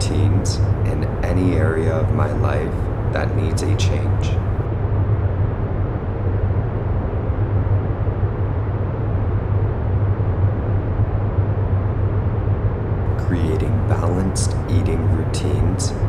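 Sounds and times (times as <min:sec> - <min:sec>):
deep background noise with hum: 0:00.0 - 0:16.0.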